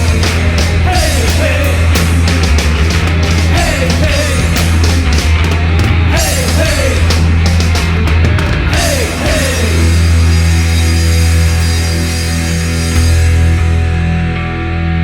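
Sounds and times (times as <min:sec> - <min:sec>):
hard rock band music: 0:00.0 - 0:15.0.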